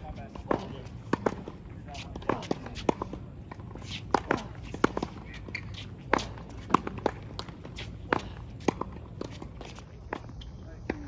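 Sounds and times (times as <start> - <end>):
tennis ball struck by rackets: 0.3 - 10.3.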